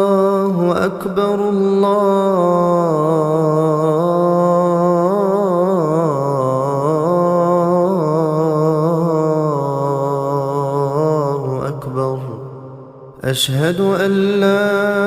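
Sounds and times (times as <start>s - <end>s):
person singing call to prayer: 0.0s - 15.0s.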